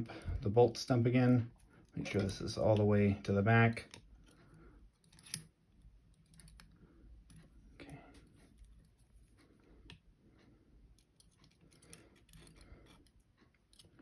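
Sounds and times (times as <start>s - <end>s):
faint metallic clicks and scrapes: 0.0s - 14.0s.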